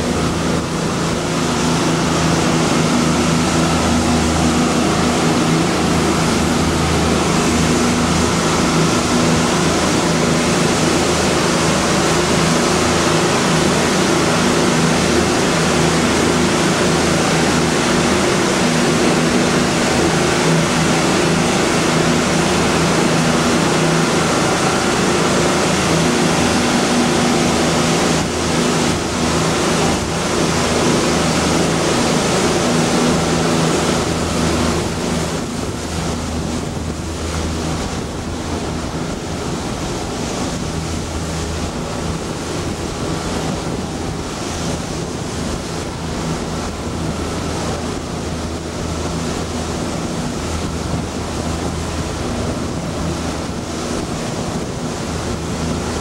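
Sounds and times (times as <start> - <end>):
boat engine running: 0.0 - 56.0
water rushing past hull: 0.0 - 56.0
wind buffeting microphone: 0.0 - 56.0.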